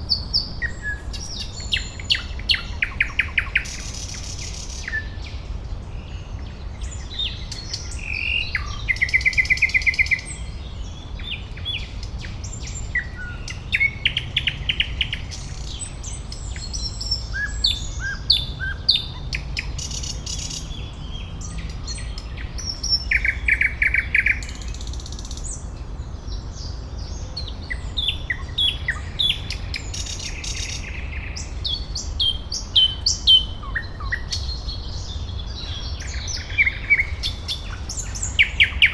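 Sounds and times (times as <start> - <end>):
birds singing: 0.0 - 38.9.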